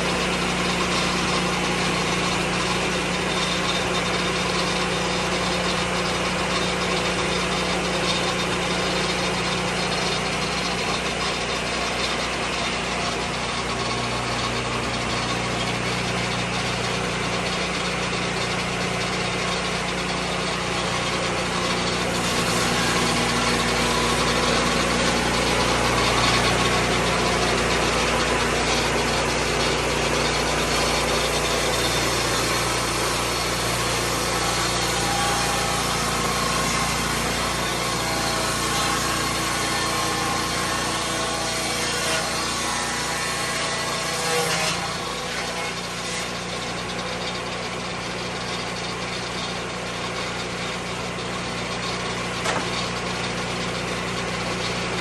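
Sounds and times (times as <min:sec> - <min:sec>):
sawmill cutting wood: 0:00.0 - 0:55.0.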